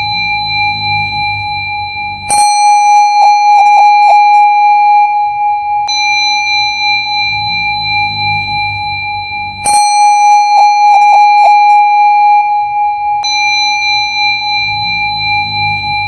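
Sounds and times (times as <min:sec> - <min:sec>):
ringing bell-like tone: 0:00.0 - 0:16.0
sharp bell strike: 0:00.0 - 0:16.0.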